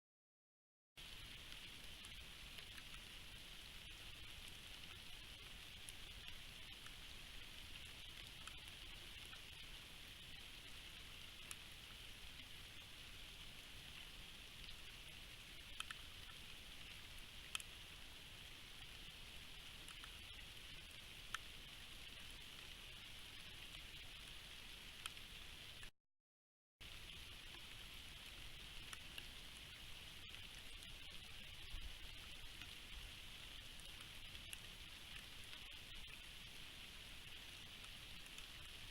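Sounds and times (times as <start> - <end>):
faint rain falling: 1.0 - 25.9, 26.8 - 38.9
raindrop ticks: 1.0 - 25.9, 26.8 - 38.9.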